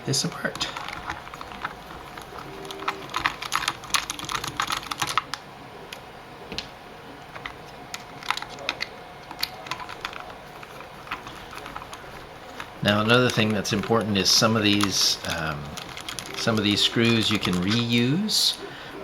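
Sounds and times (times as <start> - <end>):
plastic and metal parts clicking: 0.3 - 6.7, 7.3 - 18.1.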